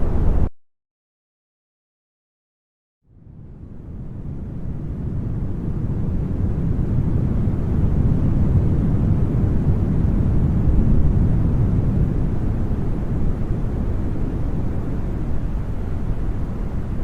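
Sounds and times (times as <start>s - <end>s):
brown noise rushing: 3.4s - 17.0s.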